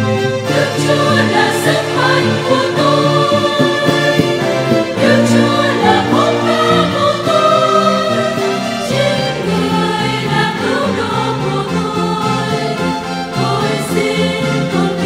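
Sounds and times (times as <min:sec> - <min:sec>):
mixed choir singing a hymn: 0:00.4 - 0:15.0.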